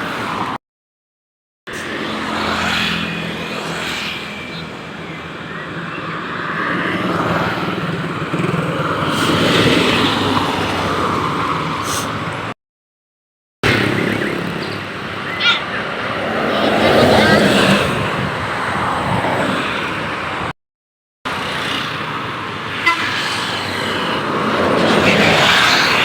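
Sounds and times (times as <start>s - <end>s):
road traffic: 0.0s - 0.6s, 1.7s - 12.6s, 13.6s - 20.6s, 21.3s - 26.0s.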